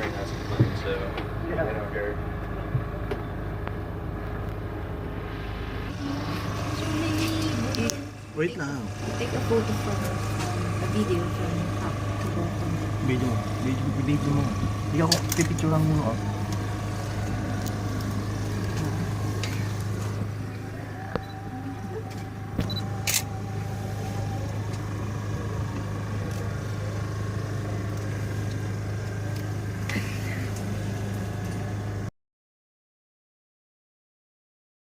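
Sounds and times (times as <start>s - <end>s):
low mechanical hum: 0.0s - 32.1s.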